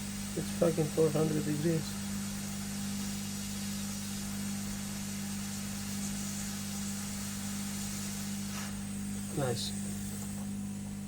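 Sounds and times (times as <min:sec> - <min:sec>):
electrical hum: 0:00.0 - 0:11.0
hot air blower hissing: 0:00.0 - 0:11.0.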